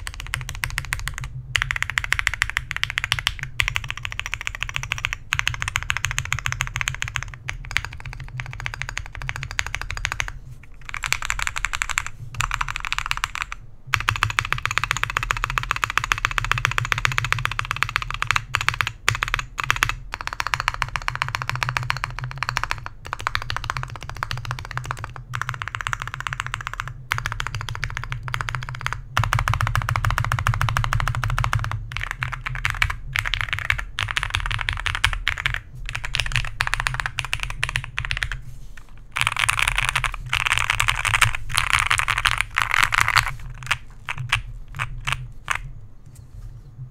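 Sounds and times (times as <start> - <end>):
typing on mechanical keyboard: 0.0 - 45.7.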